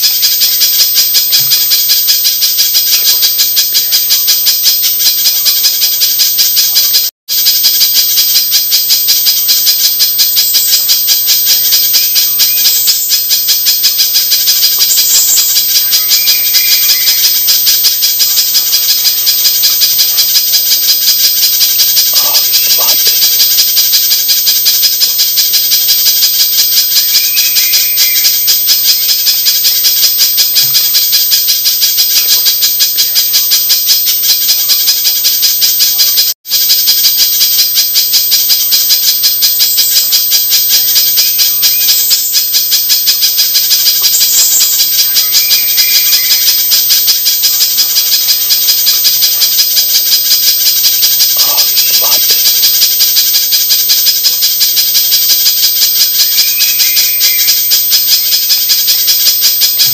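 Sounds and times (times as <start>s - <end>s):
bird chattering trill: 0.0s - 33.5s, 38.2s - 59.9s.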